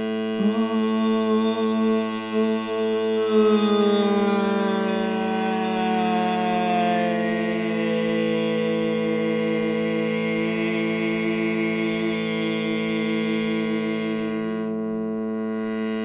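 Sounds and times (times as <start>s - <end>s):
electronic drone: 0.0s - 16.0s
pulsing electronic tone: 0.0s - 16.0s.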